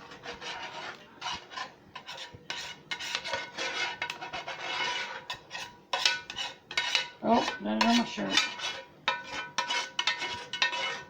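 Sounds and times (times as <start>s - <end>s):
utensil scraping gravy from pan: 0.0s - 11.0s.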